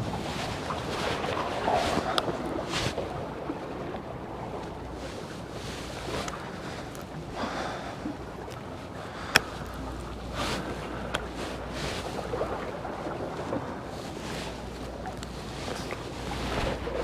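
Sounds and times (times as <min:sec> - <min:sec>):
water washing along shore: 0:00.0 - 0:17.0
wind on microphone: 0:00.0 - 0:17.0.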